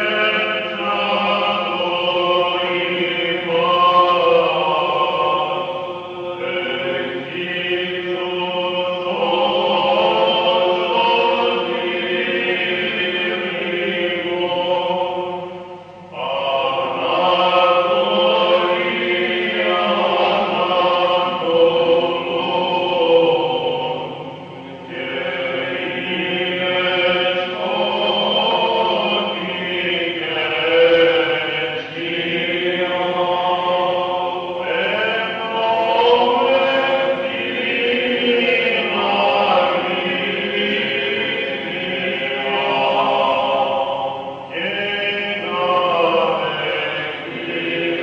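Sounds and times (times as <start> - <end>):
choir singing church chant: 0.0 - 48.0.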